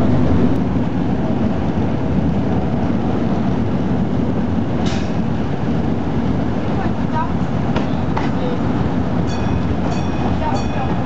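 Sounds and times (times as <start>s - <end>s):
railcar rumbling on track: 0.0s - 11.0s.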